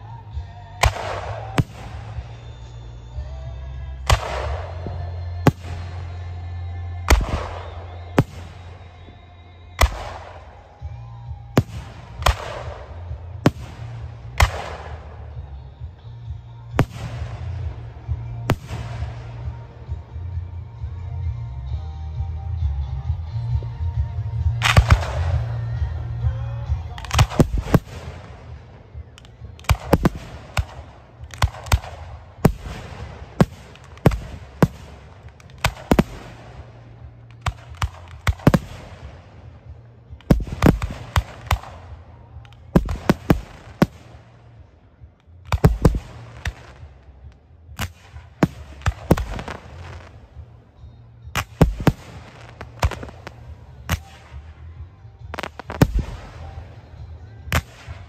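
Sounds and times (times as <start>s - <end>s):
fireworks bursting: 0.0s - 20.2s, 24.5s - 50.6s, 51.3s - 58.0s.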